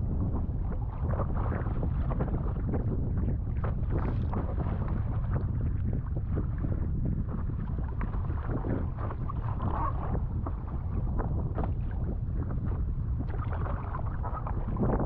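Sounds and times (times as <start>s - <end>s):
wind buffeting microphone: 0.0s - 15.0s
water splashing against paddle board: 0.8s - 15.0s.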